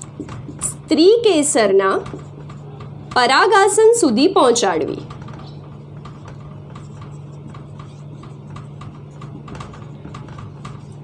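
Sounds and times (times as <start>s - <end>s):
marker pen writing on whiteboard: 0.0s - 11.0s
steady low hum: 0.0s - 11.0s.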